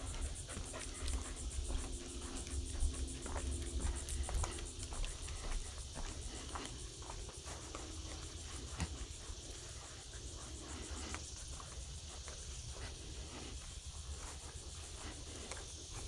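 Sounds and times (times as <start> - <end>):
crickets chirping: 0.0 - 16.0
footsteps on trail: 0.0 - 16.0.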